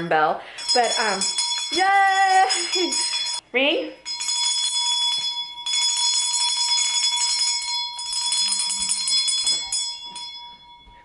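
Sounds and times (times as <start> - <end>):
handbell ringing rapidly: 0.6 - 3.4, 4.0 - 11.0.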